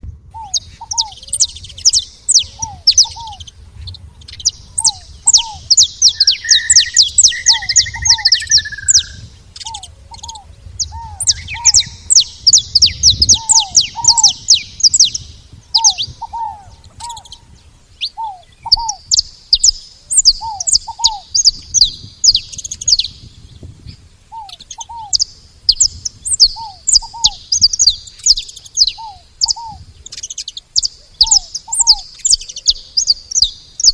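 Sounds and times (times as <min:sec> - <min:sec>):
buzzy bird trill: 0:00.4 - 0:33.9
finch high chirps: 0:00.4 - 0:33.9.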